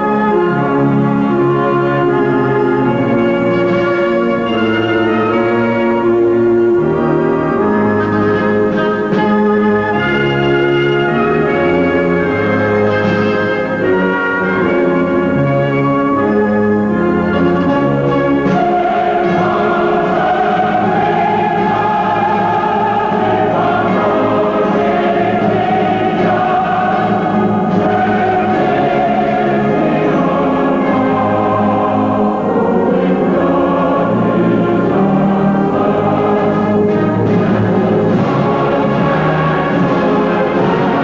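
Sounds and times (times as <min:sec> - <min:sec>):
choir singing long held notes: 0:00.0 - 0:41.0.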